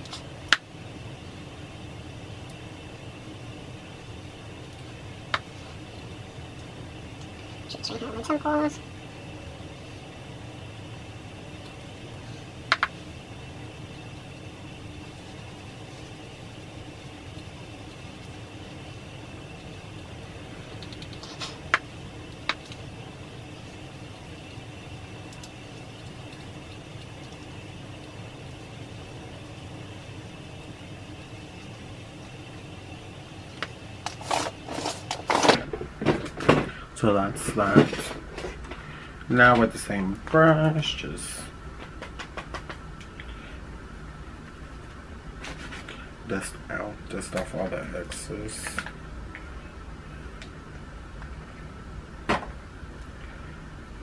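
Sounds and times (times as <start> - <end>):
ceiling fan humming: 0.0 - 54.0
faint high whine: 0.0 - 54.0.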